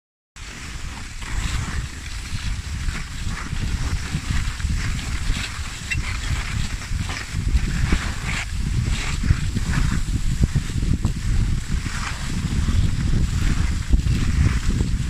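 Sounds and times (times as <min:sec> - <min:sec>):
soft crackles: 0:00.4 - 0:15.0
wind rumbling on microphone: 0:00.4 - 0:15.0.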